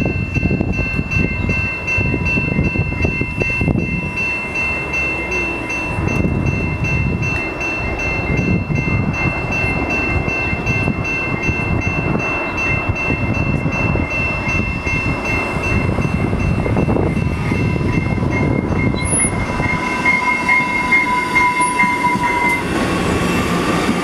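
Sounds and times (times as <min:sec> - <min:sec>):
level-crossing bell ringing: 0:00.0 - 0:22.7
train rumbling: 0:00.0 - 0:24.0.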